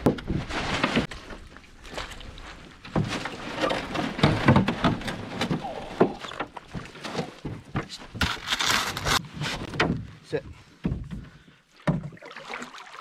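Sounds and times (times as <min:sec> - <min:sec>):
knocks and scrapes against hull: 0:00.0 - 0:12.2.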